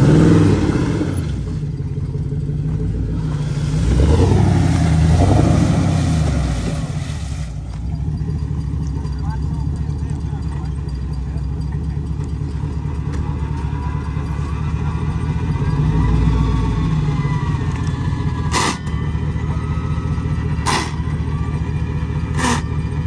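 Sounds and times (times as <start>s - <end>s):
truck engine under load: 0.0s - 23.0s.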